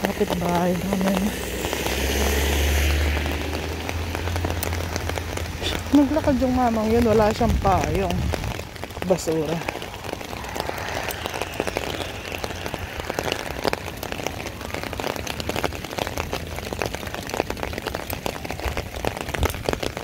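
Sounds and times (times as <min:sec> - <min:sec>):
heavy rain falling: 0:00.0 - 0:20.0
raindrops striking near microphone: 0:00.0 - 0:20.0.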